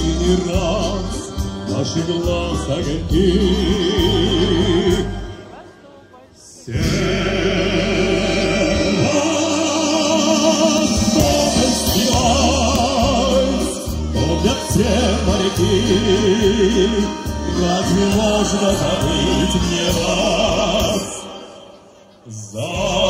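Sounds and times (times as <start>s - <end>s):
backing track with bass line: 0.0s - 5.4s, 6.7s - 21.2s
choir singing: 0.0s - 5.4s, 6.6s - 23.0s.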